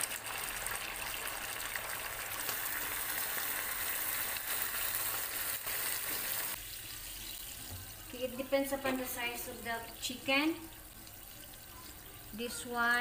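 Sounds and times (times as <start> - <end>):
soda sizzling in a hot pan: 0.0 - 13.0.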